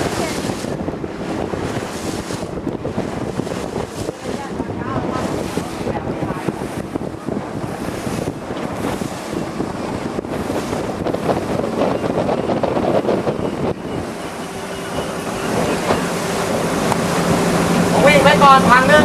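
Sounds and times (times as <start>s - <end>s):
water rushing past speedboat: 0.0s - 19.0s
wind buffeting microphone: 0.0s - 19.0s.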